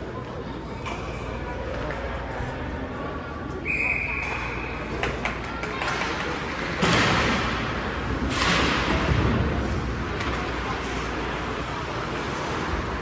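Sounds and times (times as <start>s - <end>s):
background murmur: 0.0s - 13.0s.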